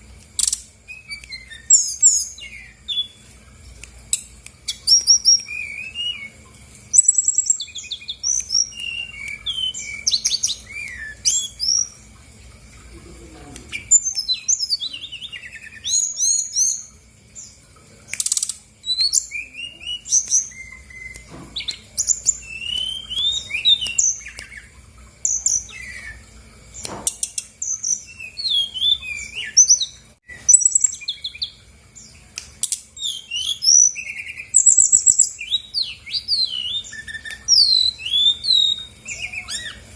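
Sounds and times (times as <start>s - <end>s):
bird singing chirps and trills: 0.4s - 12.1s, 13.4s - 39.9s.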